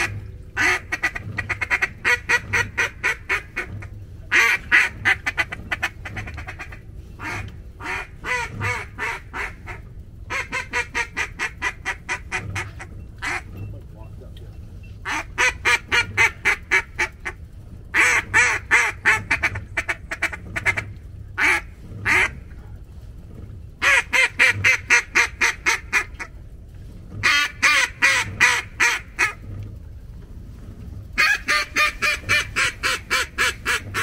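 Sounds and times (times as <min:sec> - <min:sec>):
duck call quacks: 0:00.0 - 0:13.5, 0:15.0 - 0:17.4, 0:18.0 - 0:22.4, 0:23.8 - 0:26.3, 0:27.2 - 0:29.4, 0:31.2 - 0:34.0.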